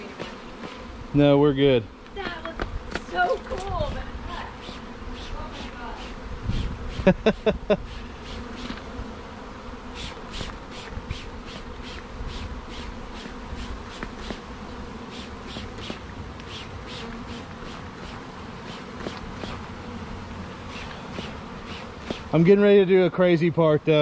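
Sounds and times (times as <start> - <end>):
honey bees buzzing: 0.0 - 24.0.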